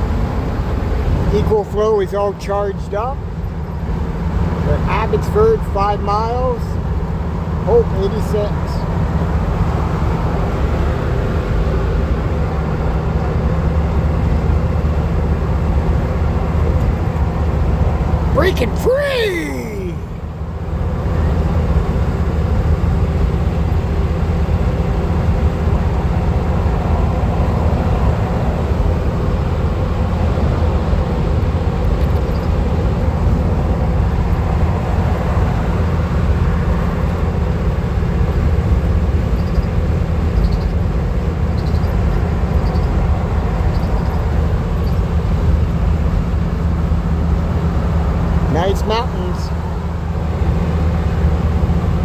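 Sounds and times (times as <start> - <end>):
van road and engine rumble: 0.0 - 52.0.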